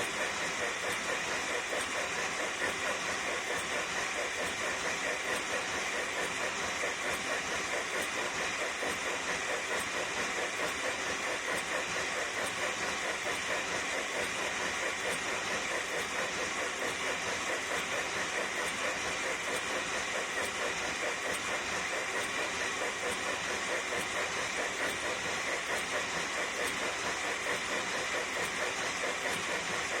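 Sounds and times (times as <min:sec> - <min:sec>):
model locomotive running: 0:00.0 - 0:30.0.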